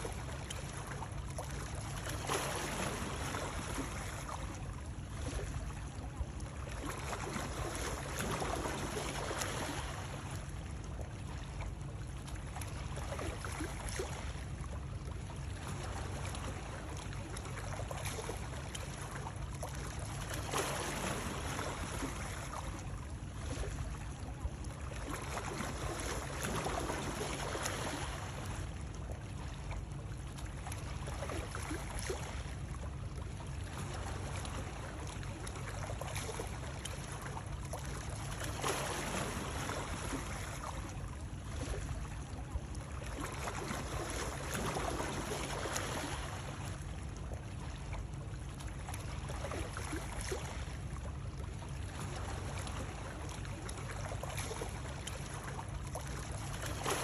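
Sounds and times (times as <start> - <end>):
water splashing and trickling: 0.0 - 57.0.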